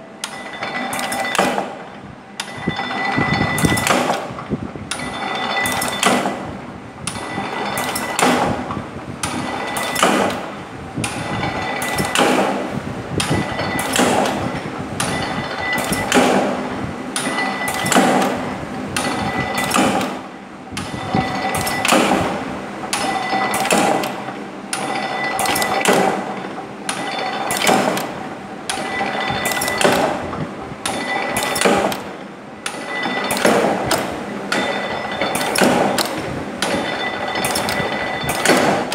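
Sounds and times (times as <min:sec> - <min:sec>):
steady machine hum: 0:00.0 - 0:38.9
power press clanking: 0:00.2 - 0:06.5, 0:07.1 - 0:38.9.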